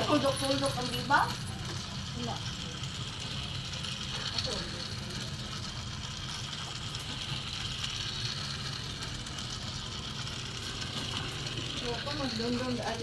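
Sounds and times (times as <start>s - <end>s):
toy train motor whirring: 0.0s - 13.0s
wheels rattling on track: 0.0s - 13.0s.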